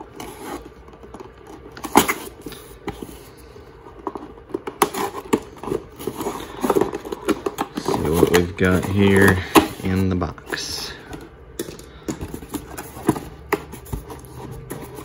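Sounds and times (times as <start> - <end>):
cardboard rustling: 0.0 - 15.0.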